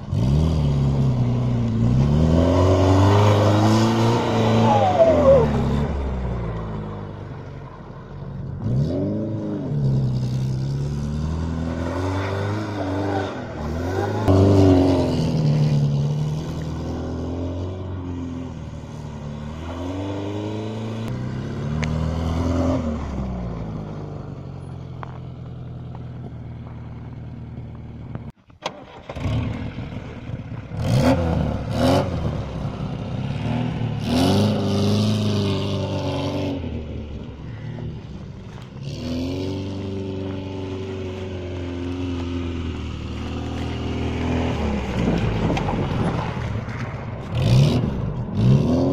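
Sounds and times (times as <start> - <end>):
car engine revving: 0.0 - 7.6, 8.3 - 28.2, 28.8 - 48.9.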